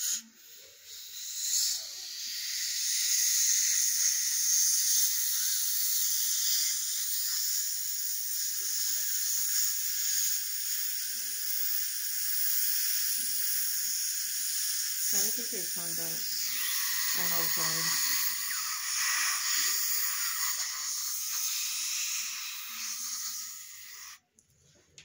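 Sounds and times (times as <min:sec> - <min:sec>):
dental equipment hissing: 0:00.0 - 0:24.2.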